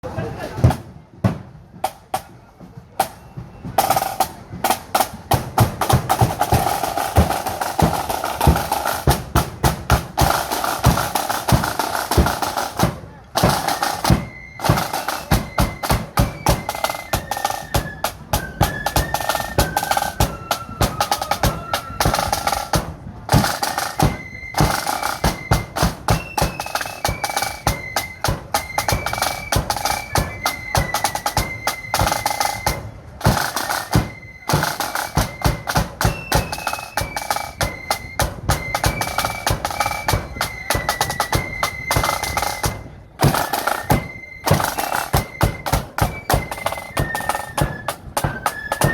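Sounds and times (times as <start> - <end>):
snare drum rolls: 0.4 - 48.9
flute melody: 1.8 - 48.9.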